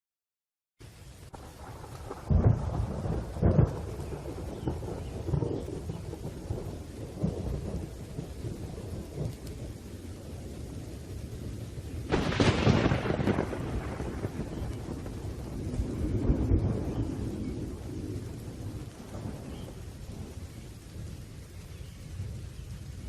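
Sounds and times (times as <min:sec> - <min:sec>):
rain hissing: 0:00.8 - 0:23.0
rolling thunder: 0:01.2 - 0:23.0.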